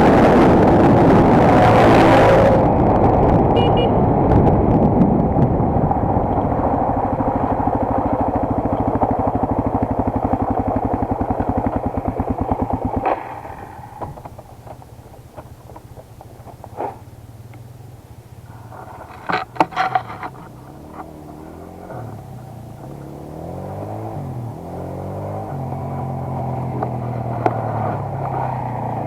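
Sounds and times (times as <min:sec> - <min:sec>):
motorcycle engine idling: 0:03.6 - 0:29.0.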